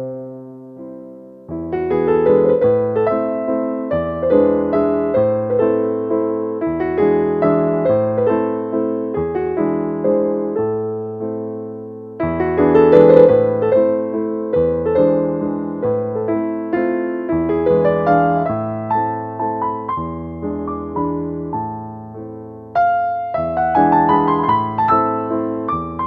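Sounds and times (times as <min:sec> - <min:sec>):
gentle solo piano music: 0:00.0 - 0:26.0.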